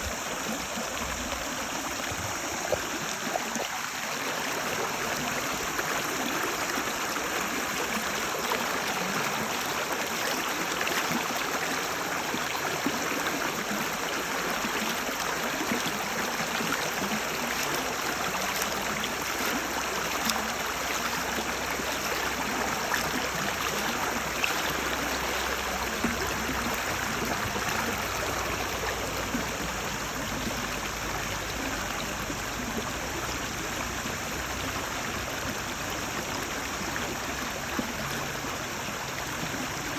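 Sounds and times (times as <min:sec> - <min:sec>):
stream water babbling over stones: 0:00.0 - 0:39.9.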